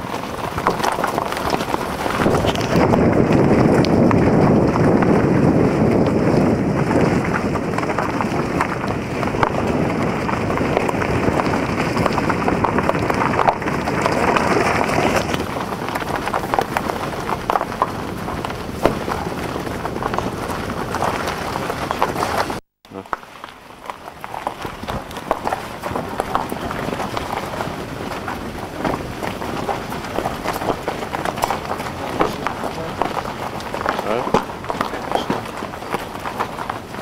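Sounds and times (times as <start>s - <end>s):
road noise rumble: 0.0s - 37.0s
stones clicking under wheels: 0.0s - 37.0s
tyres crunching on gravel: 0.0s - 37.0s.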